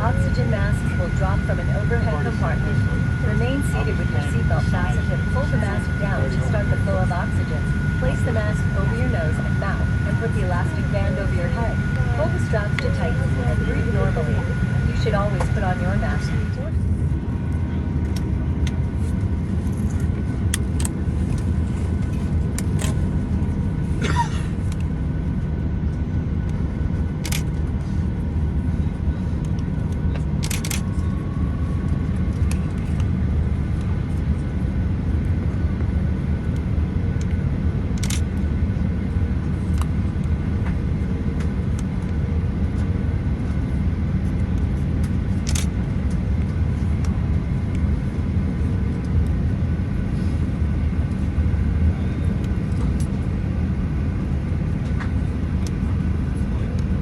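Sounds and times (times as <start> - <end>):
airplane cabin low rumble: 0.0 - 57.0.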